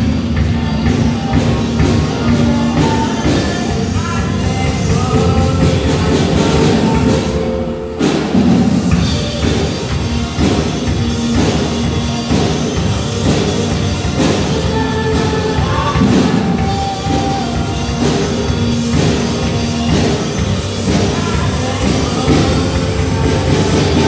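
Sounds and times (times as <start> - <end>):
drum kit: 0.0 - 24.0
electric guitars: 0.0 - 24.0
keyboard: 0.0 - 24.0
person singing: 0.0 - 24.0.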